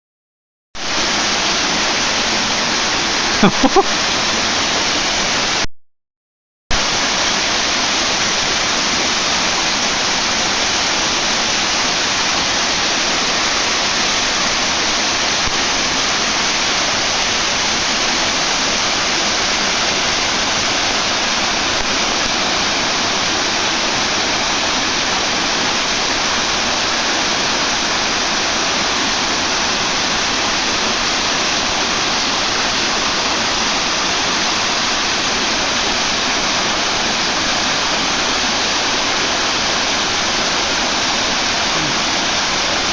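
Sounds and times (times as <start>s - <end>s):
waterfall rushing: 0.8s - 5.6s, 6.7s - 42.9s.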